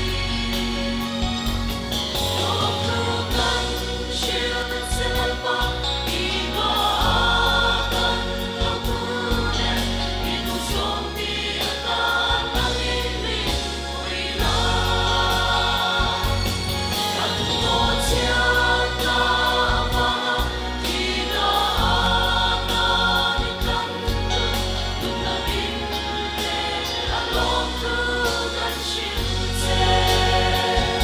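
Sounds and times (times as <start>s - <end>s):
group singing gospel in harmony: 0.0s - 31.0s
instrumental accompaniment: 0.0s - 31.0s.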